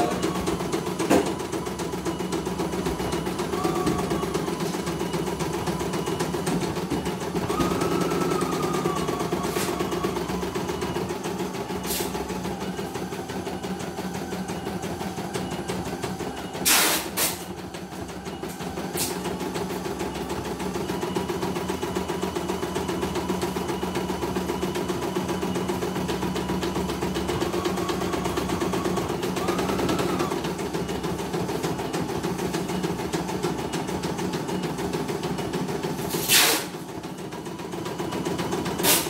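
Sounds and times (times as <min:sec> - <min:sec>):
embroidery machine stitching: 0:00.0 - 0:39.0.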